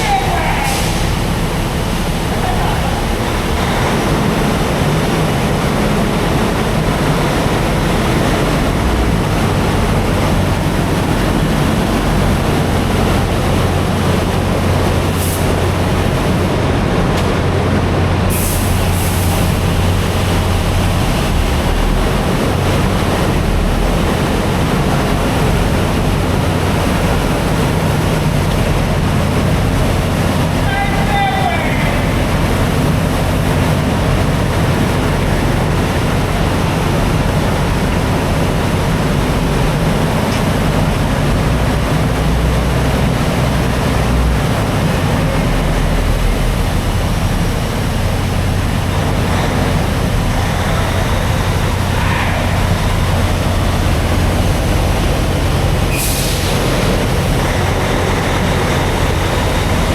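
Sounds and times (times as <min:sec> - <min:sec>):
high-pressure water spray hissing: 0:00.0 - 0:16.5, 0:18.3 - 0:59.9
diesel engine idling: 0:00.0 - 0:59.9.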